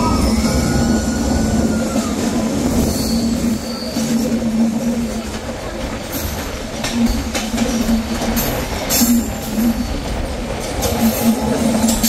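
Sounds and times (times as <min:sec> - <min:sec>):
train rumble: 0:00.0 - 0:12.0
wheels squealing on rails: 0:00.0 - 0:12.0.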